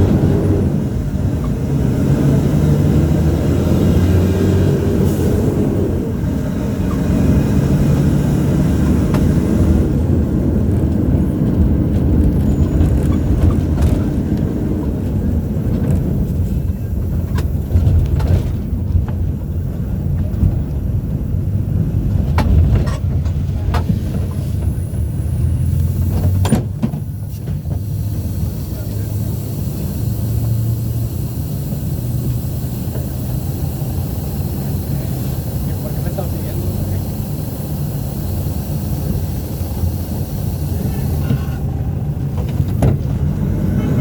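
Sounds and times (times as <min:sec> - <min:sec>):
bus engine droning: 0:00.0 - 0:44.0.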